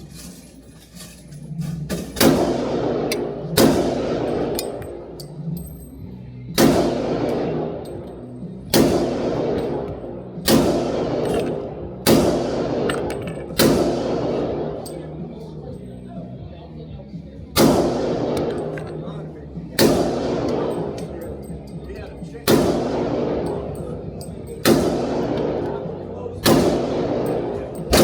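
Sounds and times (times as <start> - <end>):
pistol shots echoing: 1.9 - 5.7, 6.5 - 15.5, 17.5 - 28.0.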